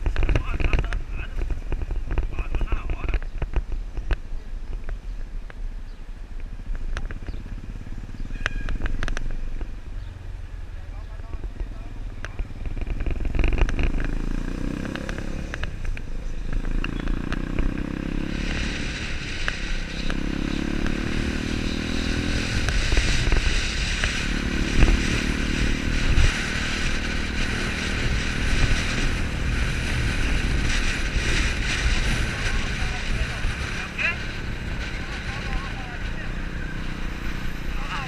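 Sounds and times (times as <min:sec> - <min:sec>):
motorcycle engine running: 0:05.9 - 0:38.0.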